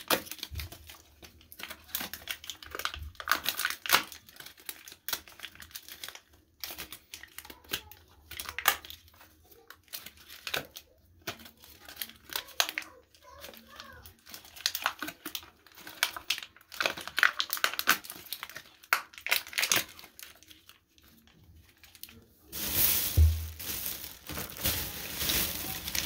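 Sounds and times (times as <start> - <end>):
plastic wrapper crinkling and tearing: 0.0 - 26.0.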